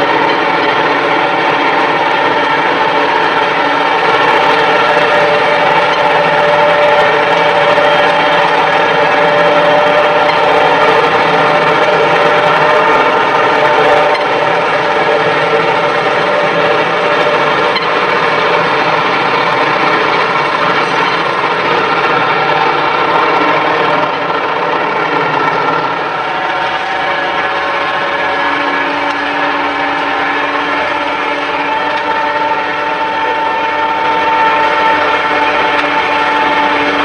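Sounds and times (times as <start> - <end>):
machine engine running: 0.0 - 37.0
steady hum: 0.0 - 37.0.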